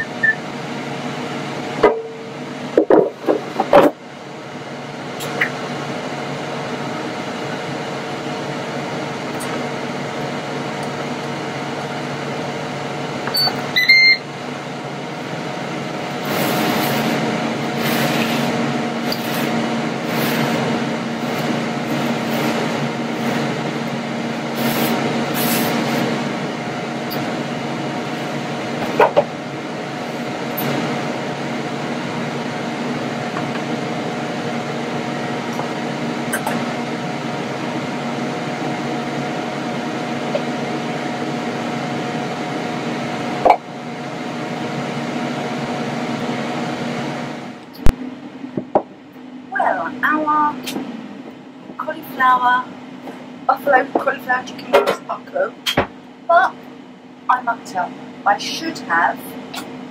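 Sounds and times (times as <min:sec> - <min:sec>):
air fryer fan hum: 0:00.0 - 0:59.9.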